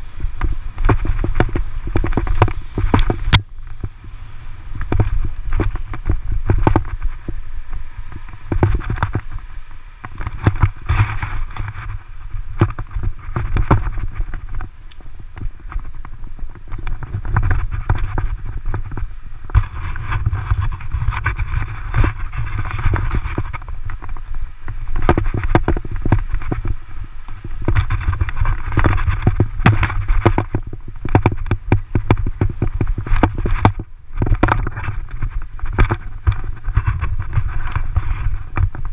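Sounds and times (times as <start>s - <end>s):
bicycle rattling and knocking: 0.0s - 38.9s
wind rumbling on microphone: 0.0s - 38.9s.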